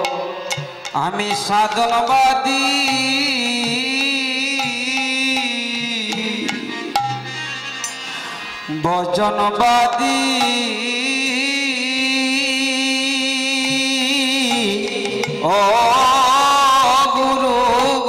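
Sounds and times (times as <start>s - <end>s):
devotional music: 0.0s - 18.0s.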